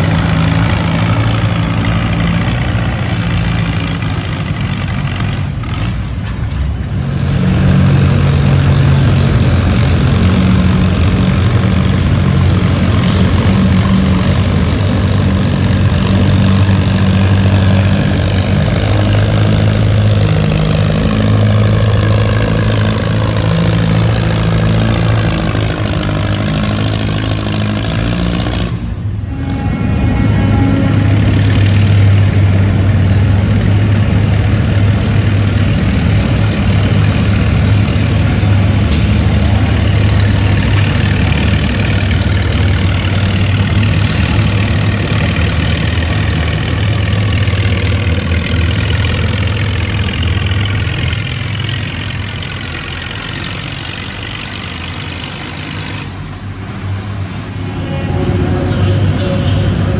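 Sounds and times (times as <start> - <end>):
tractor engine pulling under load: 0.0 - 59.9.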